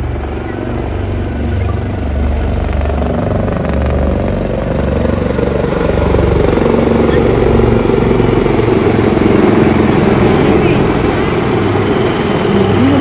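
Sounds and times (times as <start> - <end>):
helicopter rotors beating: 0.0 - 13.0.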